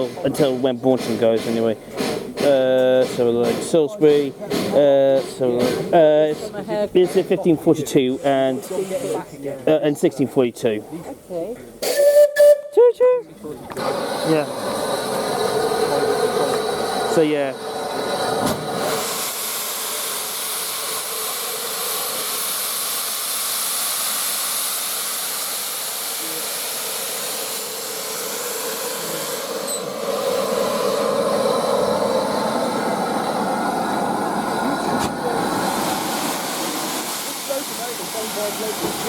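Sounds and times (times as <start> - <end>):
steam hissing from locomotive: 0.0 - 9.8, 11.8 - 12.7, 13.8 - 39.0.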